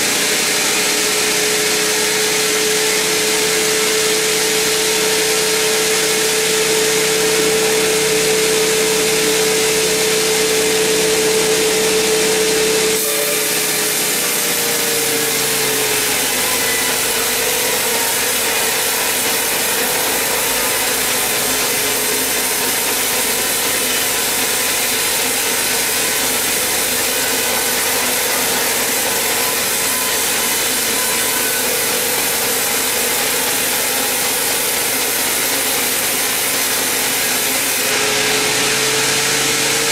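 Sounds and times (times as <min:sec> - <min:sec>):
band saw motor hum: 0:00.0 - 0:39.9
saw cutting through log: 0:00.0 - 0:39.9.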